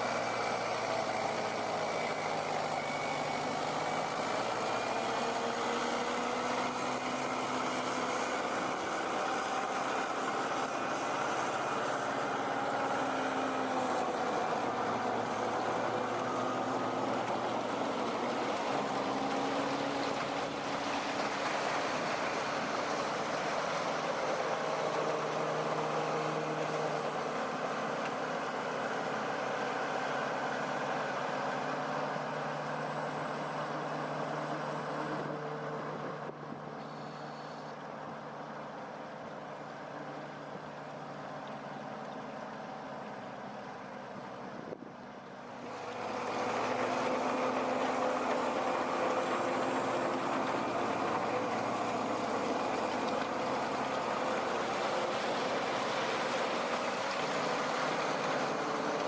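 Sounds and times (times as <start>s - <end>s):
heavy truck engine running: 0.0s - 59.0s.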